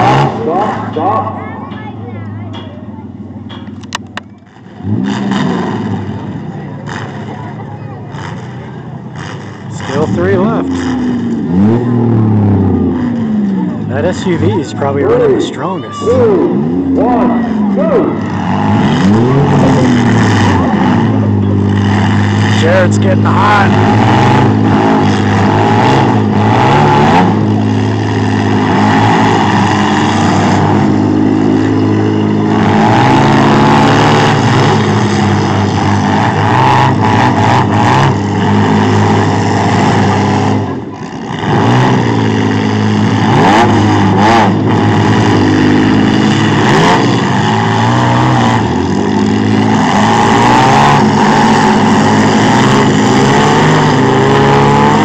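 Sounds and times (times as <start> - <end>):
truck engines revving: 0.0 - 55.0
vehicles crashing together: 0.0 - 55.0.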